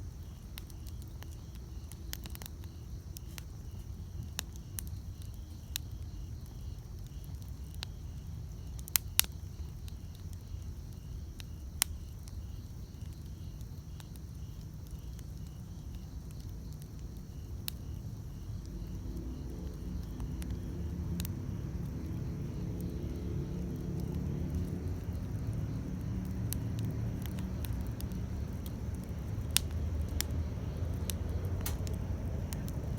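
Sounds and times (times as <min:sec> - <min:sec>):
campfire crackling: 0:00.0 - 0:32.9
insects chirping: 0:00.0 - 0:32.9
sharp pops of fire: 0:00.0 - 0:32.9.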